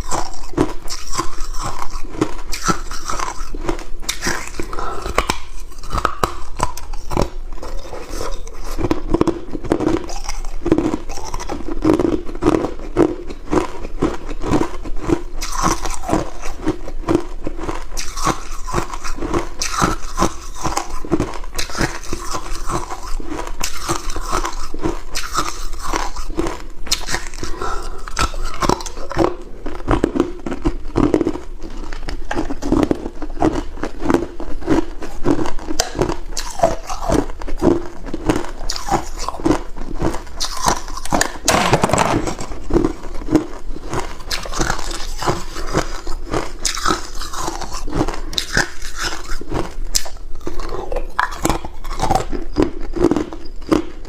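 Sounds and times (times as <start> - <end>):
ice cubes being chewed: 0.0 - 54.0.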